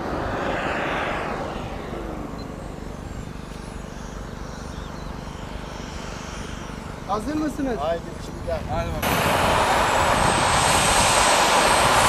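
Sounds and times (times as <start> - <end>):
model jet turbine running: 0.0 - 12.0.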